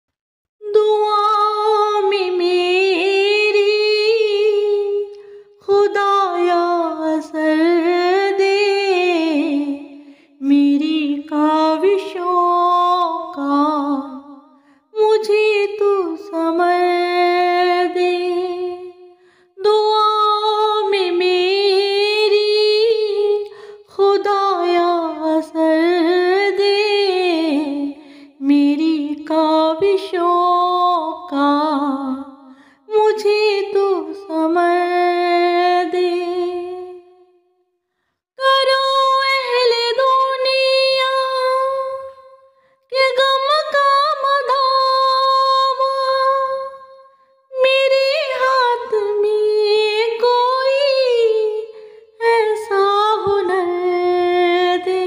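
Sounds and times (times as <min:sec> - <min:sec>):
woman singing unaccompanied: 0:00.6 - 0:14.3, 0:15.0 - 0:37.2, 0:38.4 - 0:55.0.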